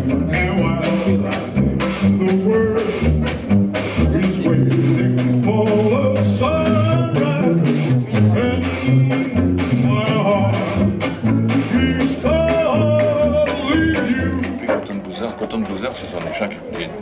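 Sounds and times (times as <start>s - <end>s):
man singing blues: 0.0s - 15.0s
acoustic band playing: 0.0s - 17.0s.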